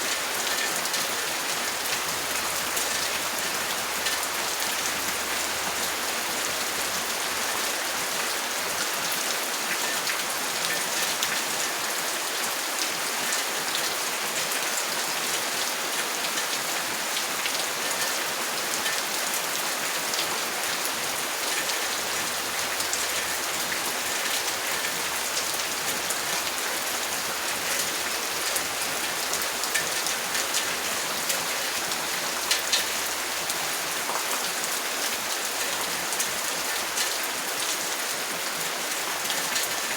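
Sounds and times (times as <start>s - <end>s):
falling rain: 0.0s - 39.9s.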